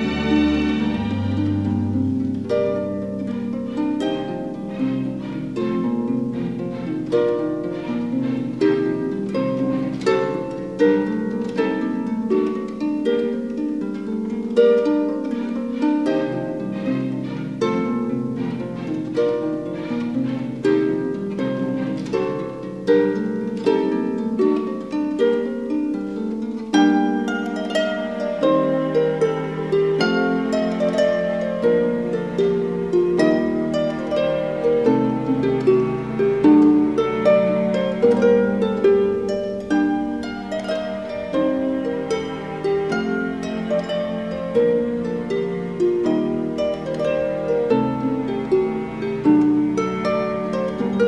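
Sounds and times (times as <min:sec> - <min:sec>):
classical harp music: 0:00.0 - 0:51.0.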